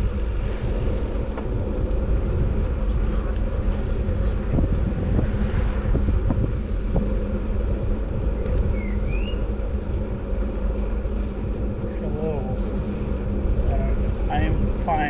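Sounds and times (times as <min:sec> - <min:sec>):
vehicle hum: 0:00.0 - 0:15.0
wind rumbling on microphone: 0:00.0 - 0:15.0.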